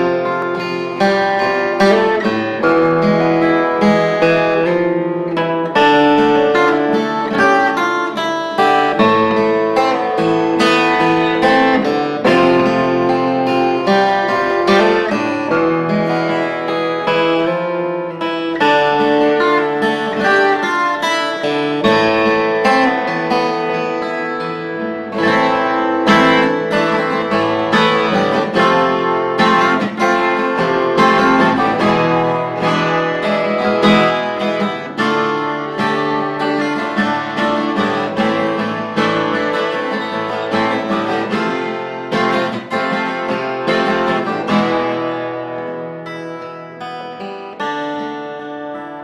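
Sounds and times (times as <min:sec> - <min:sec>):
twelve-string acoustic guitar: 0:00.0 - 0:49.0.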